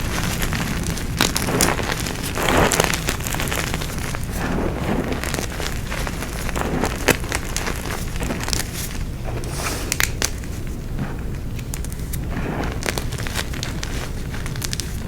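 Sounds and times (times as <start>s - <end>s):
chalk blocks crunching: 0.0s - 15.0s.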